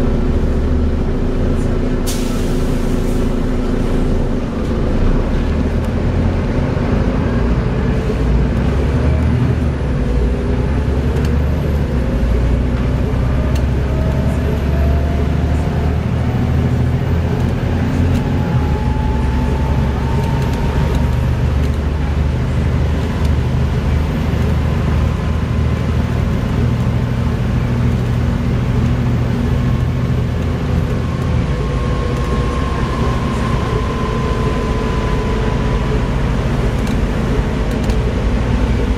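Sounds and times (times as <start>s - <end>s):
bus diesel engine running: 0.0s - 38.9s
rising engine whine: 0.0s - 38.9s.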